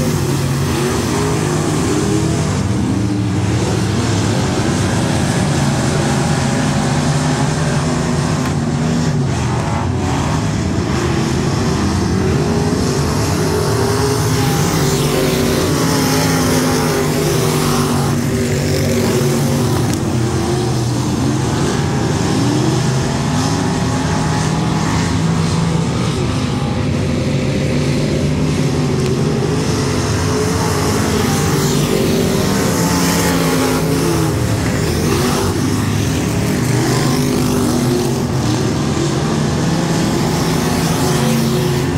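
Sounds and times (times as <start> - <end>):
race car engines: 0.0 - 41.9.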